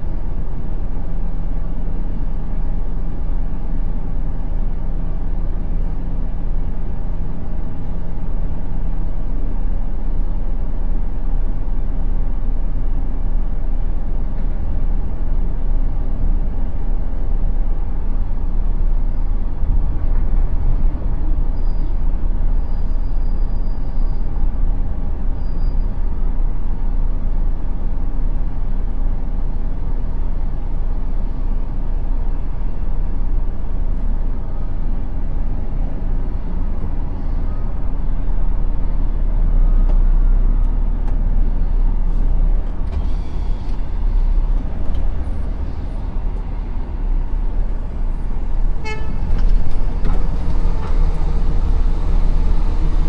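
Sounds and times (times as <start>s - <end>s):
truck engine rumbling: 0.0s - 53.0s.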